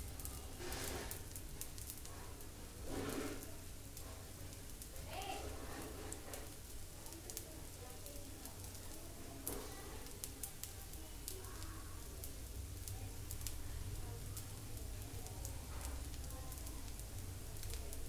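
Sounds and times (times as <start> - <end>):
batter sizzling on a hot pan: 0.0 - 18.0
crackles and pops: 0.0 - 18.0.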